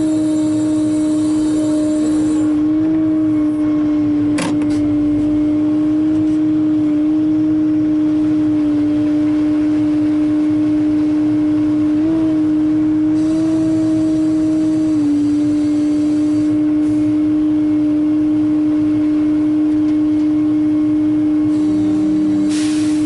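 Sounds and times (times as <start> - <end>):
excavator engine and hydraulics hum: 0.0 - 23.0.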